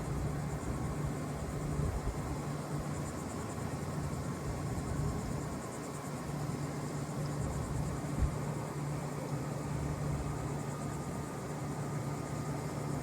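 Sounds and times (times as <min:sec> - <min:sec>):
condenser fan rushing: 0:00.0 - 0:13.0
crickets chirping: 0:00.0 - 0:13.0.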